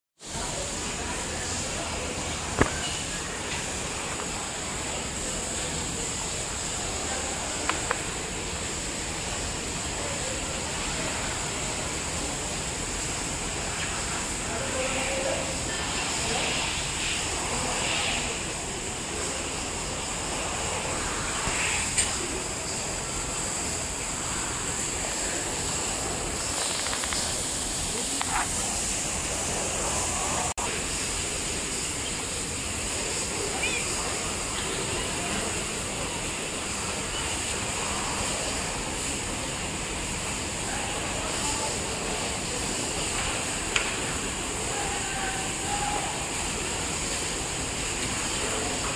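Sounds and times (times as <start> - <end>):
rushing noise with high hiss: 0.2 - 48.9.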